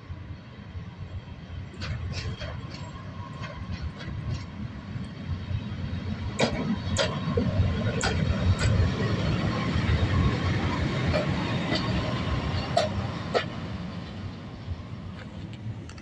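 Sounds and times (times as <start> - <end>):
locomotive rumbling past: 0.0 - 15.6
wheels clicking and clanking on track: 0.8 - 16.0.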